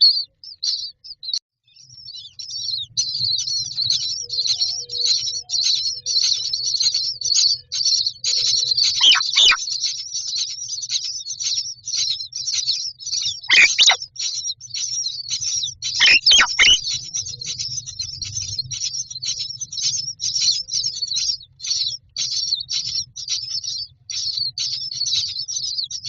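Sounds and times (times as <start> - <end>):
nestlings begging chirps: 0.0 - 26.0.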